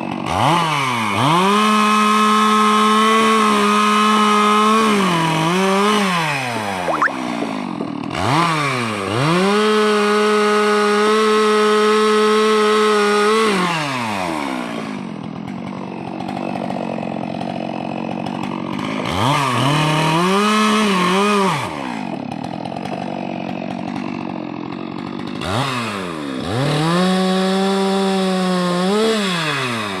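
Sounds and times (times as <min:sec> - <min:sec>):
chainsaw revving: 0:00.0 - 0:30.0.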